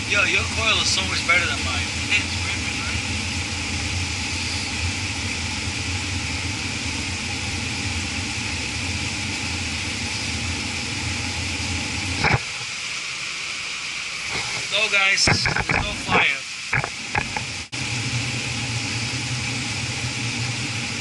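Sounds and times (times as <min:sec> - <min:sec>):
machinery drone with low hum: 0:00.0 - 0:21.0.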